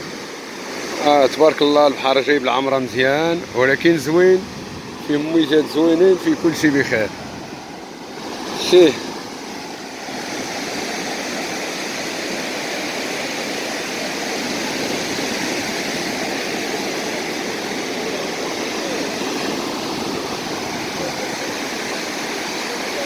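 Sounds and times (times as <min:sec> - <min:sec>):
sea surf rushing on shore: 0:00.0 - 0:23.0.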